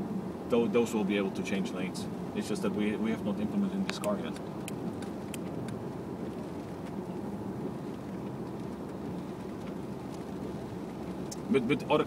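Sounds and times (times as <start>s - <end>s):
tyres rumbling on wet road: 0.0s - 12.0s.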